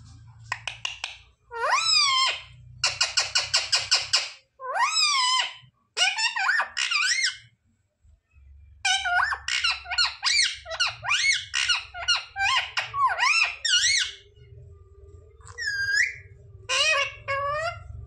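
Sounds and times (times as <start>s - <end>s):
parrot squeaky calls: 0.5s - 7.5s, 8.8s - 14.5s, 15.4s - 18.0s.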